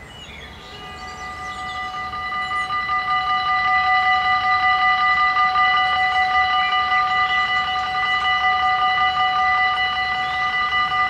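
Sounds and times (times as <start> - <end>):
level crossing warning bells: 0.0 - 11.0.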